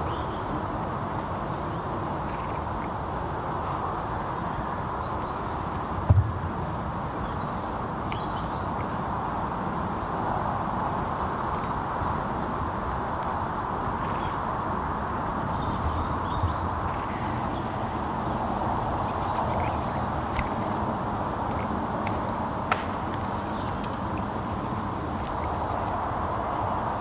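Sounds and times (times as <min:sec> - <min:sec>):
outdoor background rush: 0:00.0 - 0:27.0.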